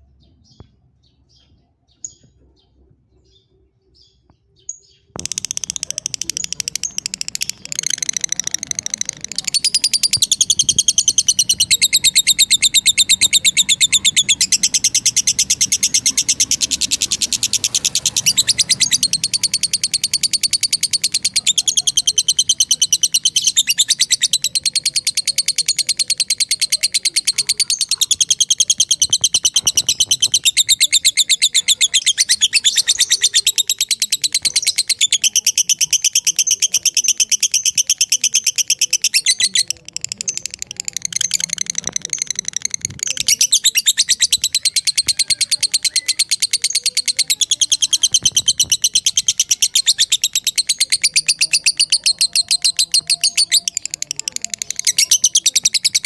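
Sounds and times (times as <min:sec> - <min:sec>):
lovebird chattering song: 0:00.2 - 0:56.0.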